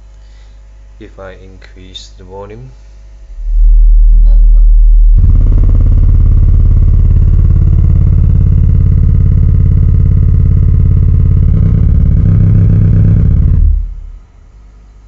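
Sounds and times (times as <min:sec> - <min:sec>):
amplifier hum and buzz: 0:00.0 - 0:15.0.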